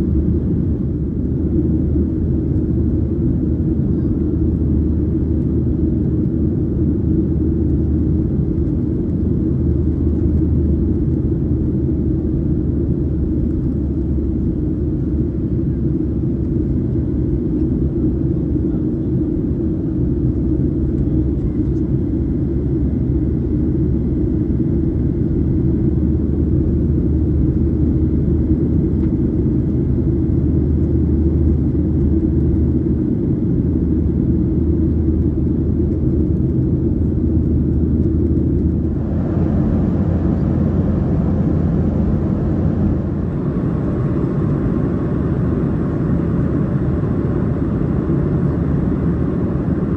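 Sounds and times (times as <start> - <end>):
aircraft cabin engine drone: 0.0 - 49.9.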